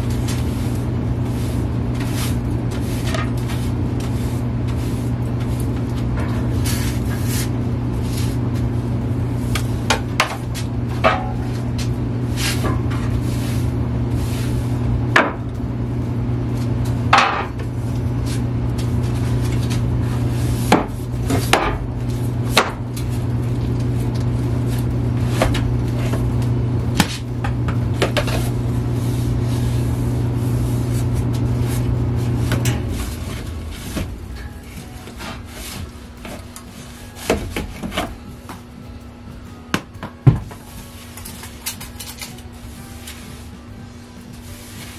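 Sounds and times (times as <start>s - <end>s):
vacuum cleaner humming: 0.0s - 39.3s.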